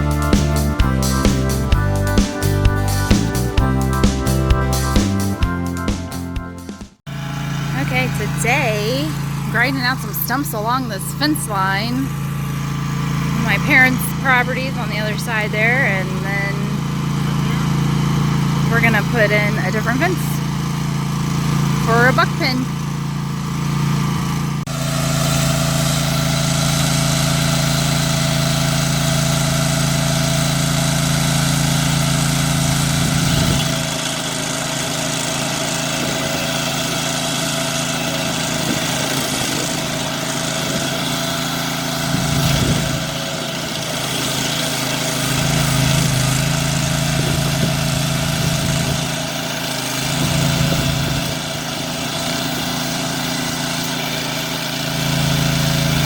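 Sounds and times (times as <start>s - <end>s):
stump grinder running: 0.0s - 5.7s, 7.1s - 56.0s.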